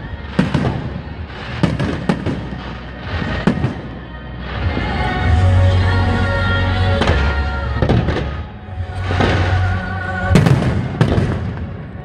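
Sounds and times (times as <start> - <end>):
firework crackling and rumble: 0.0 - 6.2, 7.0 - 12.0
music with long held notes: 0.0 - 12.0
firework bangs: 0.1 - 5.4, 7.0 - 12.0.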